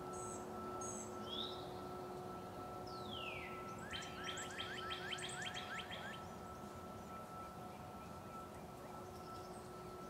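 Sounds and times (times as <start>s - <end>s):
faint songbird chirps: 0.1s - 10.0s.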